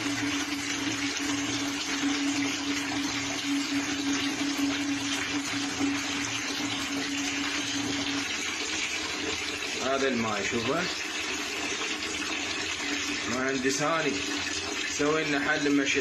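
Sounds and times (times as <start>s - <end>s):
water pouring into plastic basin: 0.0s - 16.0s.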